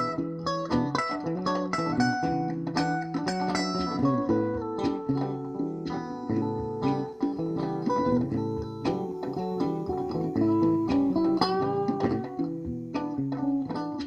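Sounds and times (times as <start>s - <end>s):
fast plucked guitar: 0.0s - 14.0s.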